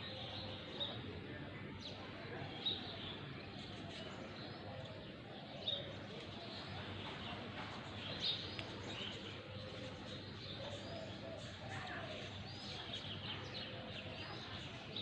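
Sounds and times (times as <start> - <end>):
neighbourhood background hum: 0.0 - 15.0
small birds chirping: 1.8 - 15.0.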